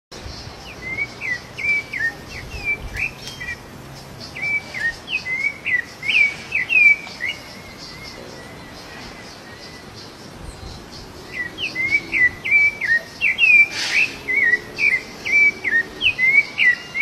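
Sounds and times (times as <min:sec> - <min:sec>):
thrush singing whistled notes: 0:00.2 - 0:17.0.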